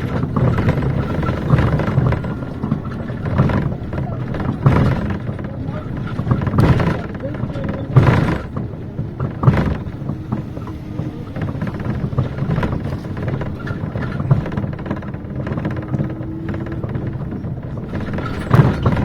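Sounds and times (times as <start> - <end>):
bus engine and road rumble: 0.0 - 19.0
steady rattling: 0.0 - 19.0.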